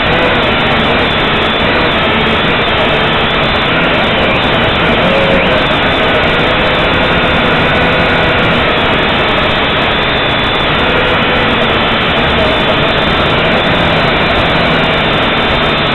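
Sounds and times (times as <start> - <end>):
drone motors whining: 0.0 - 15.9.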